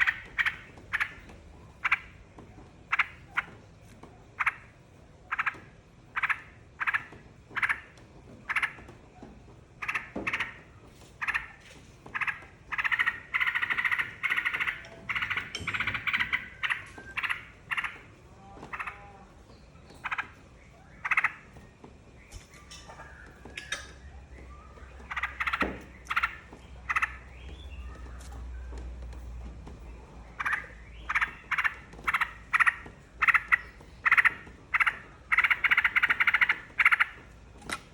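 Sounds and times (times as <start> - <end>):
bird chattering calls: 4.4 - 8.9, 9.8 - 28.3, 30.1 - 37.4.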